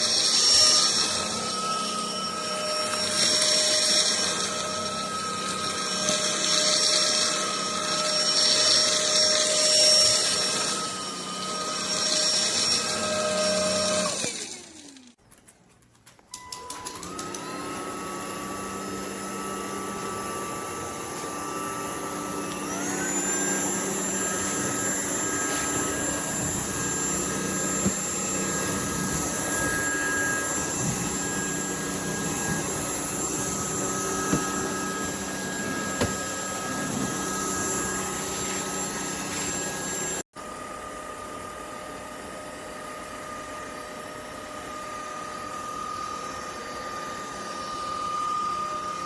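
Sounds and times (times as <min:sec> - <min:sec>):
vacuum motor whine: 0:00.0 - 0:15.2, 0:16.4 - 0:49.0.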